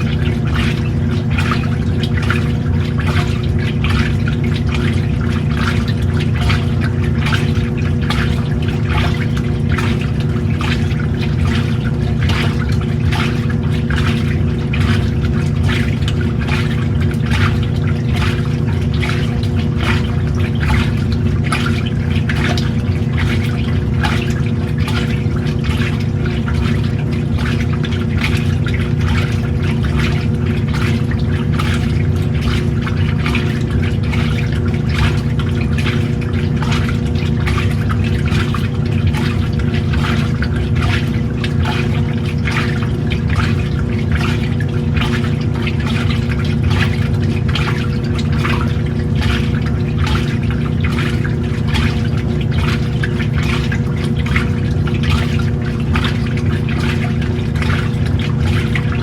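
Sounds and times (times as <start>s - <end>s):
washing machine motor hum: 0.0s - 59.0s
water sloshing in tub: 0.0s - 59.0s.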